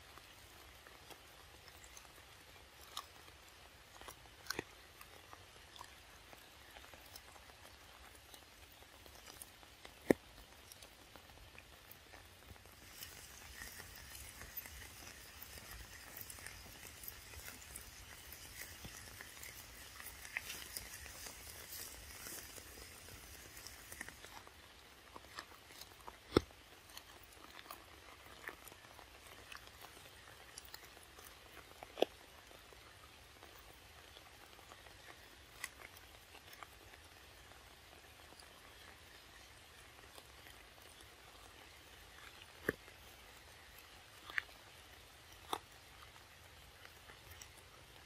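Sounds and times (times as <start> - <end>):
light rain on leaves: 0.0 - 48.0
monkey eating clicks and smacks: 0.0 - 48.0.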